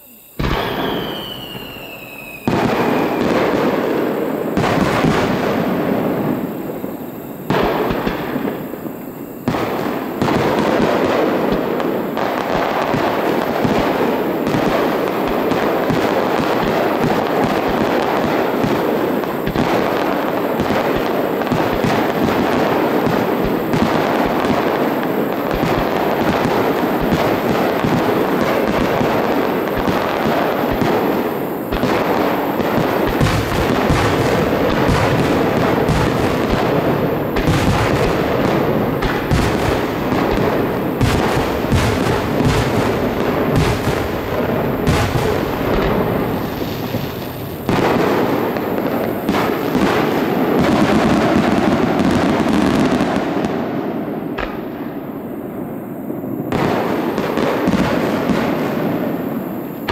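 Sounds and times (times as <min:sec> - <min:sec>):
falling firework whistle: 0:00.0 - 0:55.8
fireworks launching and bursting: 0:00.0 - 0:59.9.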